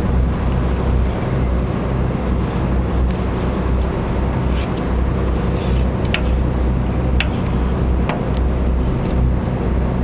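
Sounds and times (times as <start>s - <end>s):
boat engine drone: 0.0s - 10.0s.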